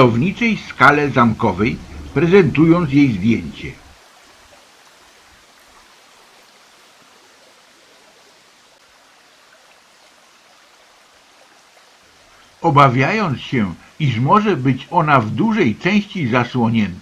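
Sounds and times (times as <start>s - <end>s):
faint stream rushing: 0.0s - 17.0s.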